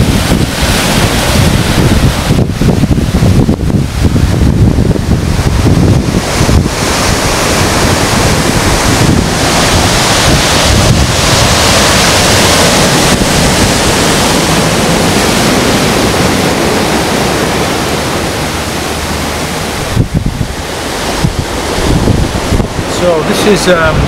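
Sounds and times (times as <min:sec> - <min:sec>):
surf breaking on rocky shore: 0:00.0 - 0:24.0
wind buffeting microphone: 0:00.0 - 0:24.0.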